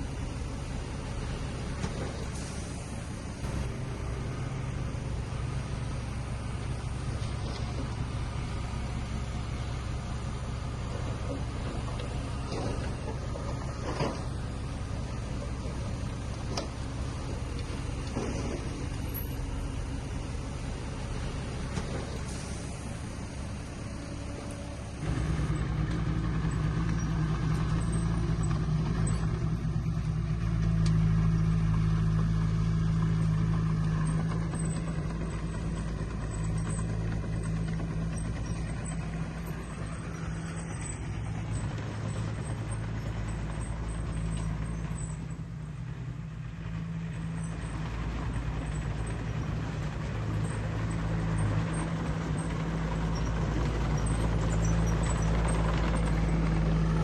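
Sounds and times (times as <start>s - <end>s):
diesel engine of earthmoving equipment: 0.0s - 57.0s.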